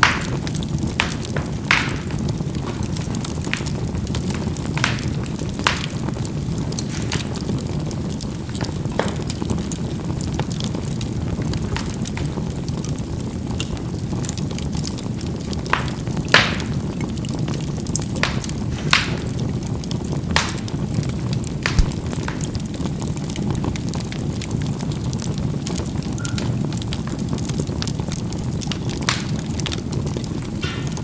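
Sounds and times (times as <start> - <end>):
crackling pops: 0.0 - 31.0
fire rumbling: 0.0 - 31.0.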